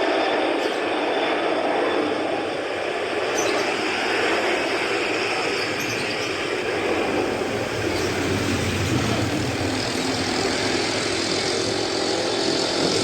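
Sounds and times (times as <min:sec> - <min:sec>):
airliner engines rushing: 0:00.0 - 0:13.0.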